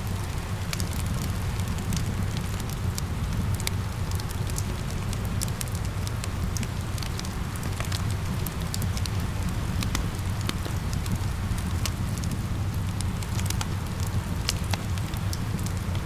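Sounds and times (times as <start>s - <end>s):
rain falling: 0.0s - 16.0s
wood fire crackling: 0.0s - 16.0s.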